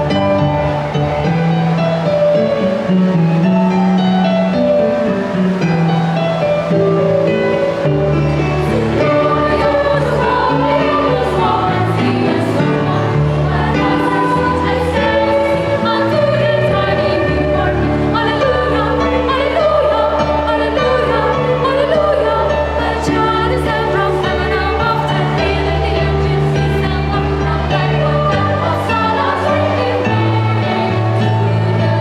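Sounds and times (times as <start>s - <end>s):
children's choir singing: 0.0s - 32.0s.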